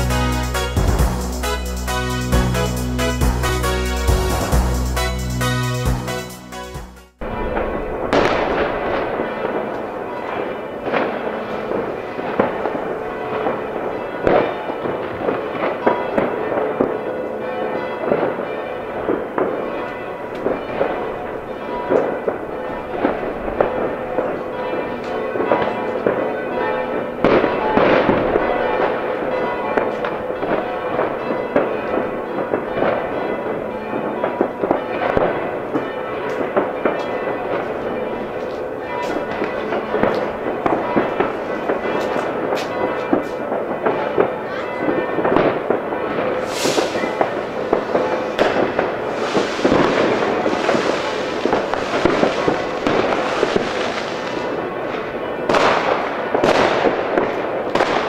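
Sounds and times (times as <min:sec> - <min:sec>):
fireworks bangs and crackles: 0:00.0 - 0:06.1, 0:07.2 - 0:58.0.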